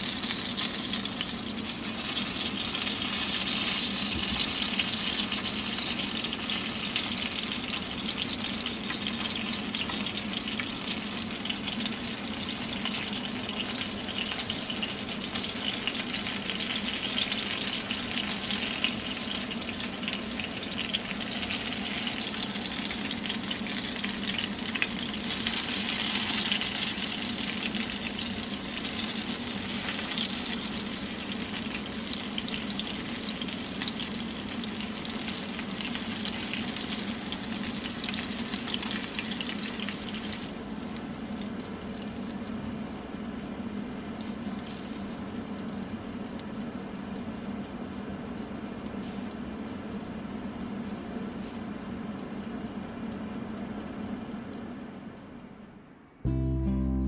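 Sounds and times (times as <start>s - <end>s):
chicken sizzling in oil: 0.0s - 54.3s.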